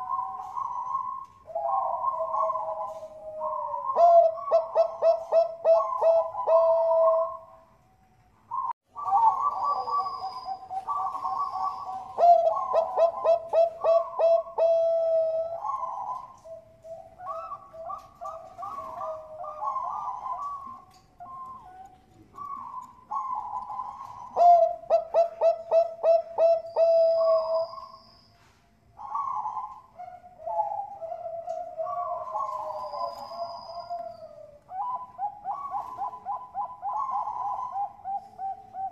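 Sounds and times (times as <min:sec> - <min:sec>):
doves cooing: 0:00.0 - 0:07.8, 0:08.5 - 0:28.0, 0:28.9 - 0:38.9.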